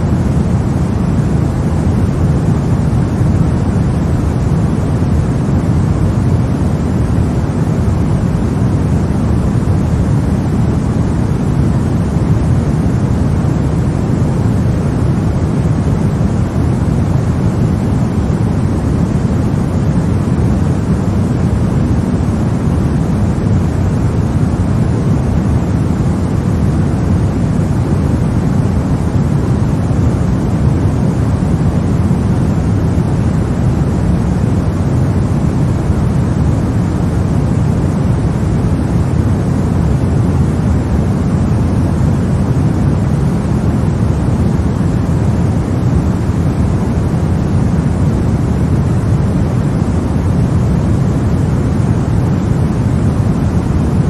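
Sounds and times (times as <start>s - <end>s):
deep white noise rush: 0.0s - 54.0s.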